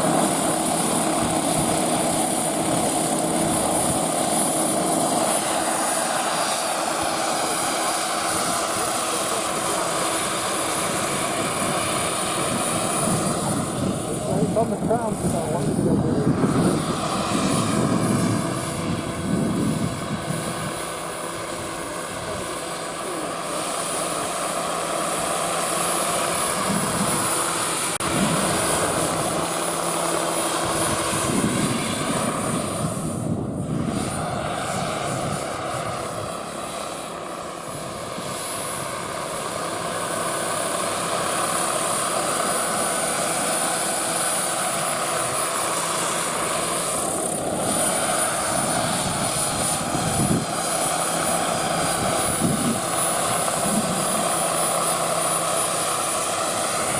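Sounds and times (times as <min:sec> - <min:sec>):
model helicopter rotor whine: 0:00.0 - 0:56.9.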